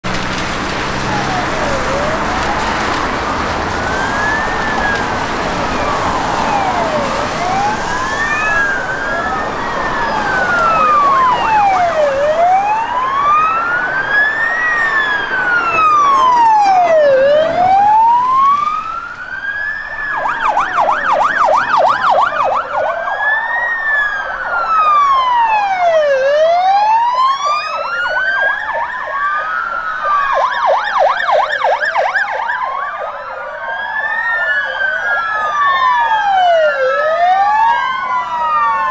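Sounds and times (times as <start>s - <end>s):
police sirens wailing: 0.0s - 38.9s
fast siren yelp: 0.8s - 38.9s.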